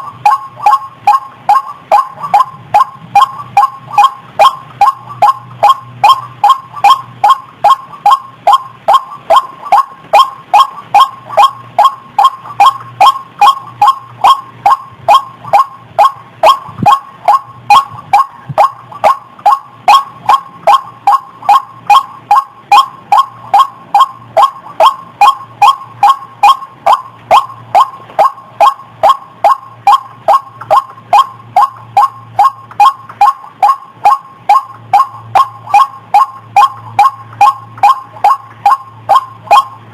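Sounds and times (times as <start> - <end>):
waterhen calls repeated: 0.0 - 39.9.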